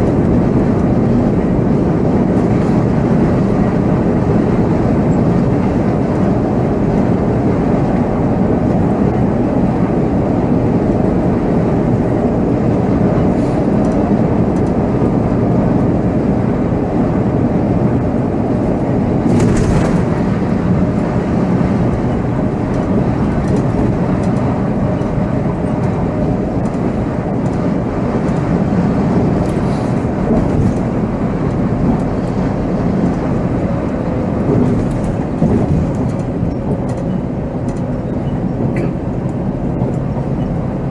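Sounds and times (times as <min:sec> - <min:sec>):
coach engine and road drone: 0:00.0 - 0:40.9.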